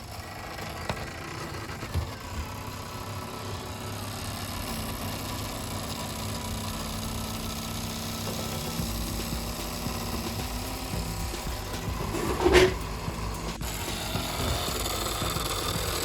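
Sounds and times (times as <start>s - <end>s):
laptop fan whirring and whining: 0.0s - 16.0s.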